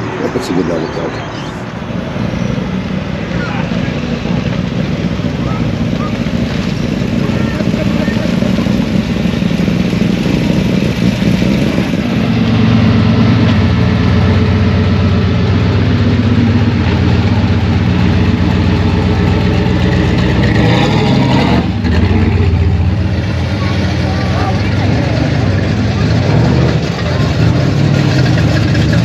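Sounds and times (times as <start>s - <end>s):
car engine idling: 0.0s - 29.0s
car engine revving: 0.0s - 29.0s.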